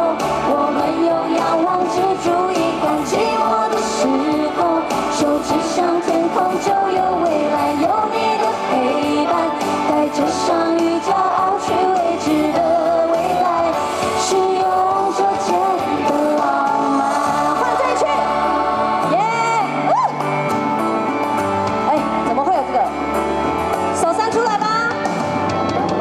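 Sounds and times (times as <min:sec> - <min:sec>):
live pop band with singing: 0:00.0 - 0:26.0.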